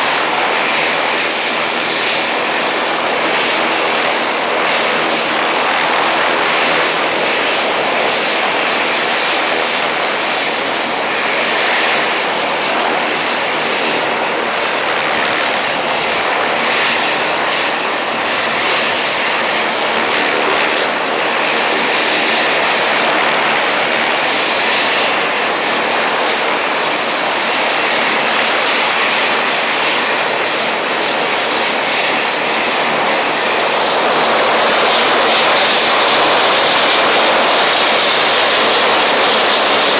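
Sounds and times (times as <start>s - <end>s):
helicopter idling on ground: 0.0s - 39.9s.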